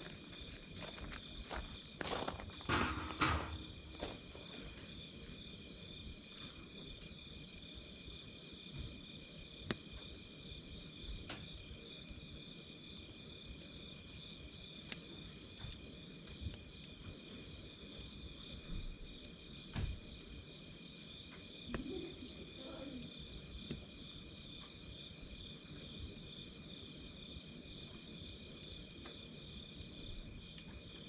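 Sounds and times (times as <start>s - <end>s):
campfire crackling: 0.0s - 31.0s
insects trilling: 0.0s - 31.0s.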